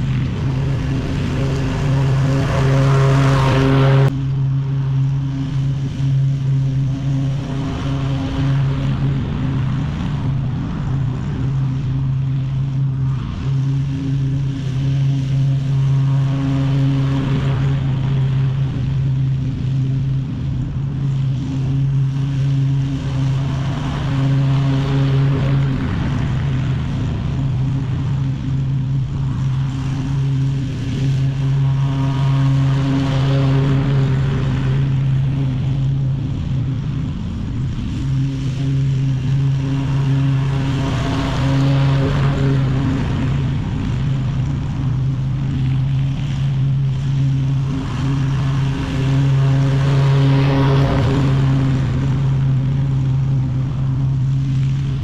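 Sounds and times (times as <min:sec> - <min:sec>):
lawn mower engine cutting grass: 0:00.0 - 0:55.0.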